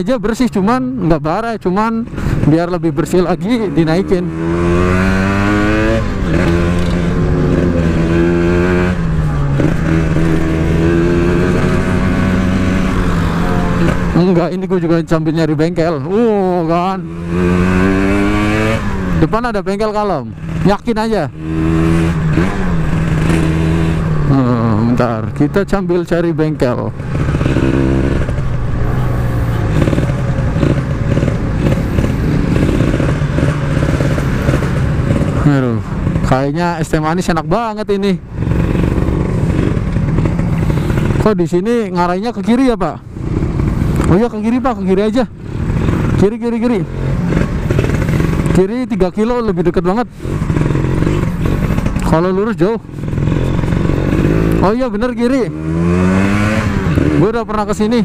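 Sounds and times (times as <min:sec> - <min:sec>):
two-stroke motorcycle engine running: 0:00.0 - 0:58.0.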